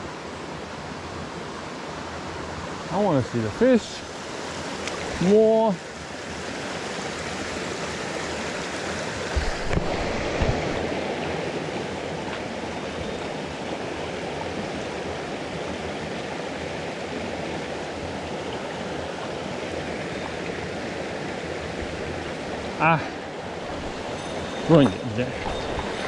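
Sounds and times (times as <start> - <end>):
stream rushing over stones: 0.0 - 26.0.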